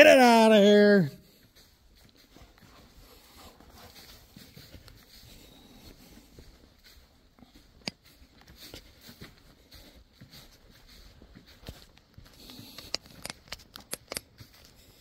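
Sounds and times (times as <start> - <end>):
footsteps crunching on straw: 0.0 - 12.6.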